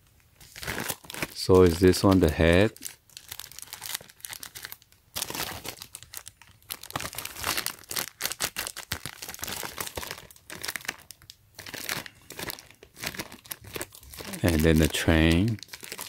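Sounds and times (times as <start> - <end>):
plastic shrink wrap crinkling: 0.2 - 16.0.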